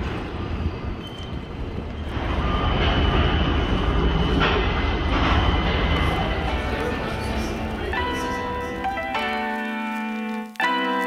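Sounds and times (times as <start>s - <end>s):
low outdoor rumble: 0.0s - 9.2s.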